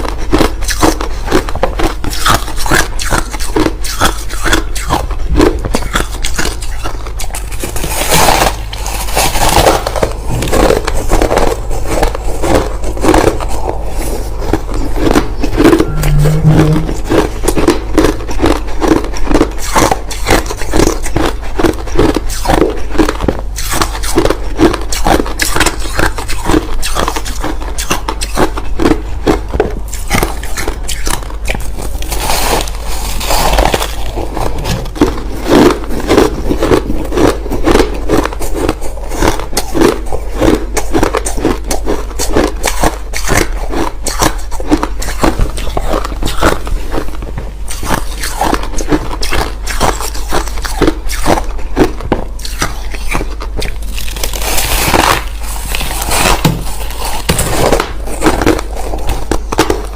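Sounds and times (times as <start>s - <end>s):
crushed ice being chewed: 0.0s - 59.9s.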